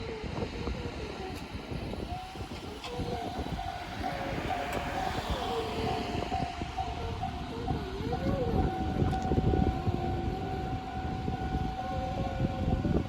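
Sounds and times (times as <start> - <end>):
crossing signal wavering tone: 0.0 - 13.0
train rumbling past: 0.2 - 12.9
crossing signal steady tone: 0.2 - 13.0.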